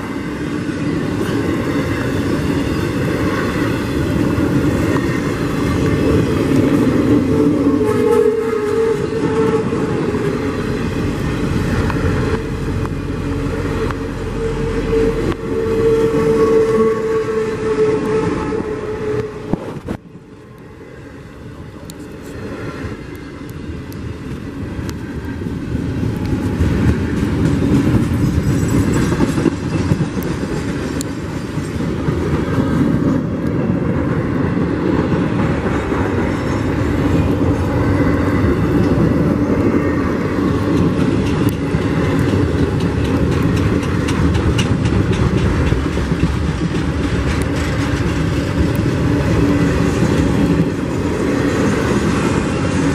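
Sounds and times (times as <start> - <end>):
train wheels rumbling and rattling: 0.0 - 52.9.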